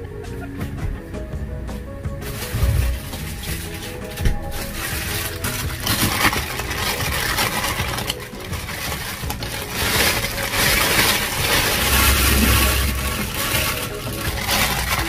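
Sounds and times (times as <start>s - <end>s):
plastic bag crinkling: 2.2s - 15.0s.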